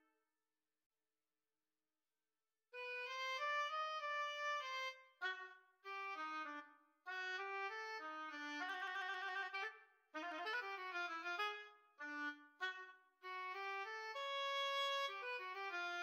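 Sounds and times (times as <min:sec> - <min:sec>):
synthesized oboe melody: 0:02.8 - 0:16.0.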